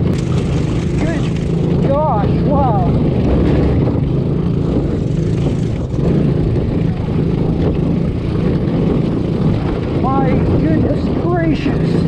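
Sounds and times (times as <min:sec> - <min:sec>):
small engine running under load: 0:00.0 - 0:12.0.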